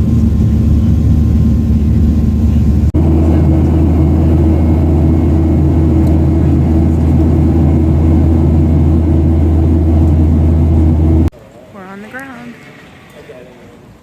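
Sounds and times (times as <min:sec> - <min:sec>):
jet engines rumbling in cabin: 0:00.0 - 0:11.3.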